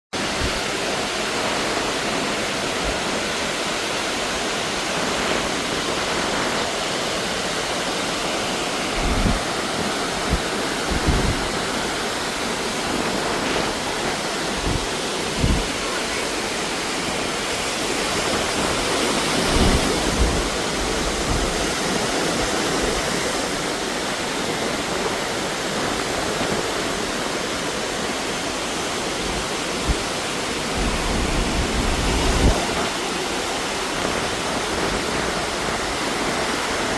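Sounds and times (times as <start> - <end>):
waterfall rushing: 0.2 - 36.9.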